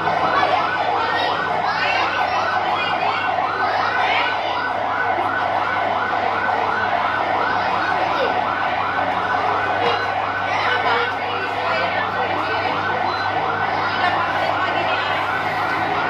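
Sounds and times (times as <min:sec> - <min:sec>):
siren-like electronic warble: 0:00.0 - 0:16.0.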